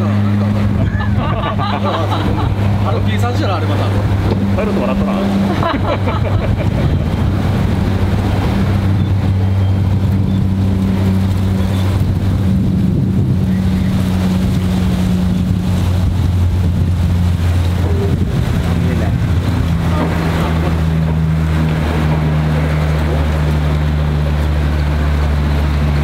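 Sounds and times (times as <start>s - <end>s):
engine hum and rumble: 0.0s - 26.0s
wind buffeting microphone: 0.0s - 26.0s.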